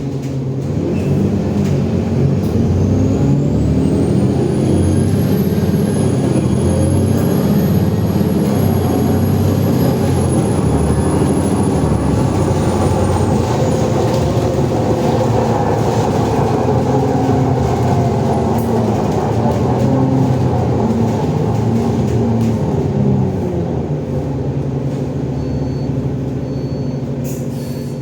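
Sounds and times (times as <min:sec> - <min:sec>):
bus diesel engine: 0:00.0 - 0:28.0
drive axle whine: 0:00.0 - 0:28.0.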